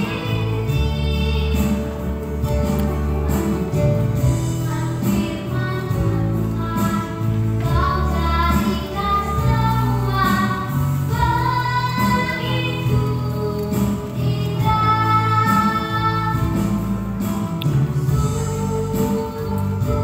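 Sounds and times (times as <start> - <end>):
child singing: 0.0 - 2.0, 4.5 - 16.8, 18.1 - 20.0
instrumental backing music: 0.0 - 20.0.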